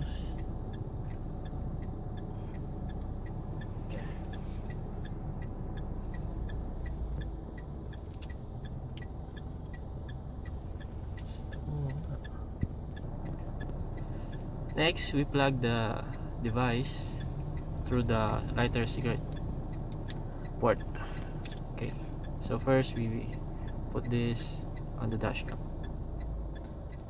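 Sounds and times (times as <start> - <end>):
faint regular ticking: 0.0 - 27.0
vehicle rumble inside car: 0.0 - 27.0.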